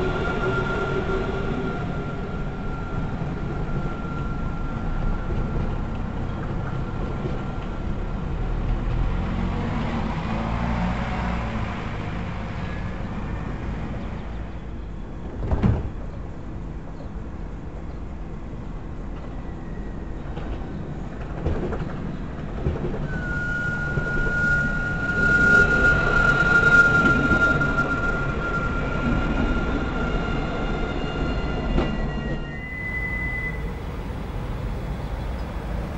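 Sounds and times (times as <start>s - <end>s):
tram high whine: 0.0s - 35.9s
tram rumbling: 0.0s - 35.9s.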